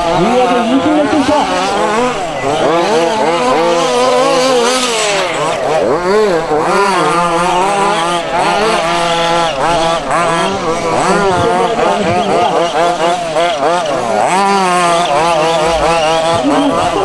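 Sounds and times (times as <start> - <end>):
small two-stroke engines revving: 0.0 - 17.0.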